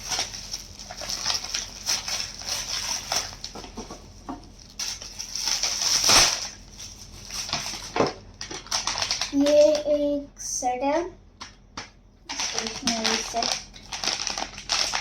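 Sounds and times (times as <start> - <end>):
packaging rustling and crinkling: 0.0 - 9.9, 12.3 - 15.0.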